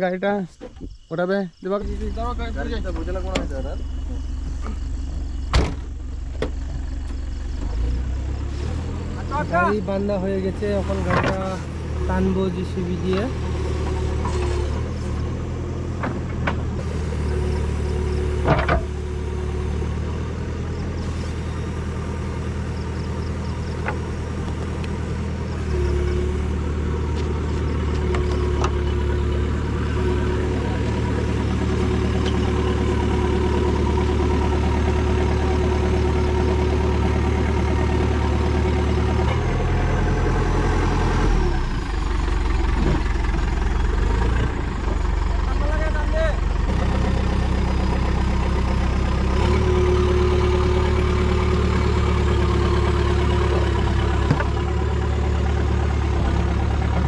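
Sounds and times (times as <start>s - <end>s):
diesel engine running: 1.1s - 57.0s.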